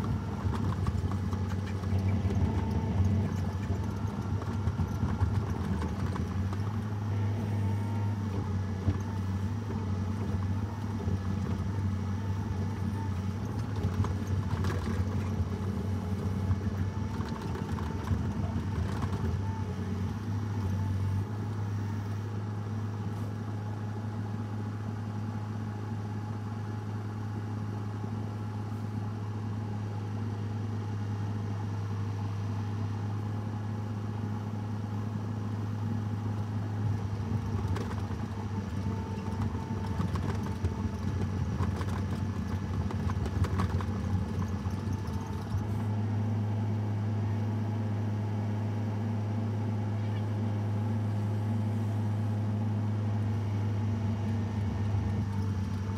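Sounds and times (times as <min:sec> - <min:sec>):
engine humming: 0:00.0 - 0:26.4, 0:27.2 - 0:55.9.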